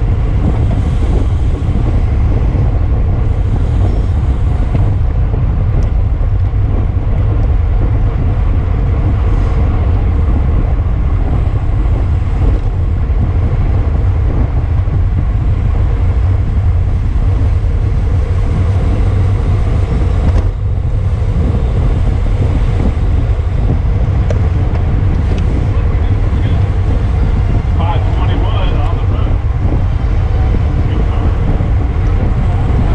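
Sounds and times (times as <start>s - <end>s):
road and tyre noise: 0.0s - 32.9s
wind buffeting microphone: 0.0s - 32.9s.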